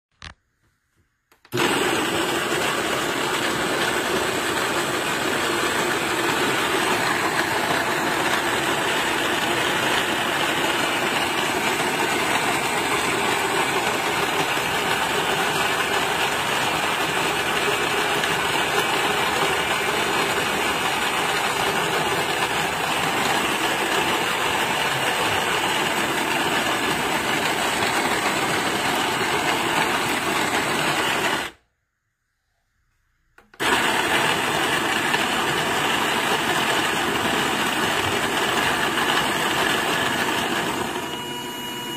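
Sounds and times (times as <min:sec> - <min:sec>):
electric coffee grinder running: 0:01.5 - 0:31.6, 0:33.6 - 0:41.9.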